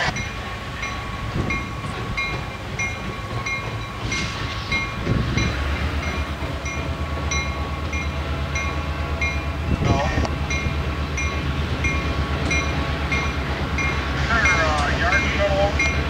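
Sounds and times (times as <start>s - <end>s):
diesel locomotive engine rumbling: 0.0s - 16.0s
locomotive bell ringing: 0.0s - 16.0s.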